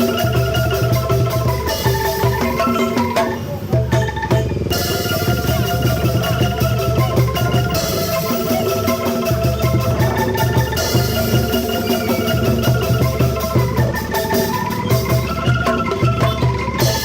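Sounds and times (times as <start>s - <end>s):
bamboo angklung tremolo: 0.0s - 17.0s.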